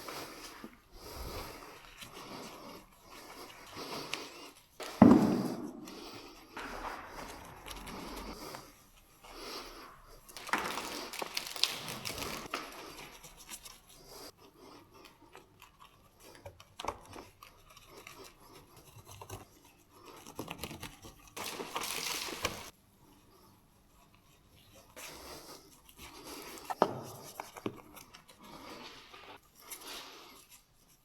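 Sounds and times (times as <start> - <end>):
rubbing and scrubbing: 0.0 - 31.0.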